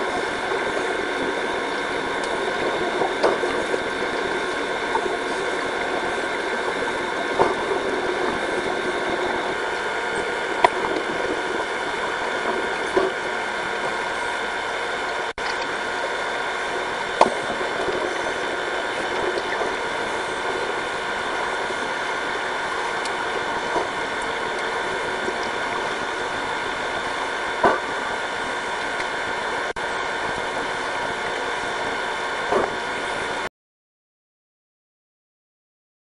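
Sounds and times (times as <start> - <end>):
underwater mechanical hum: 0.0 - 33.5.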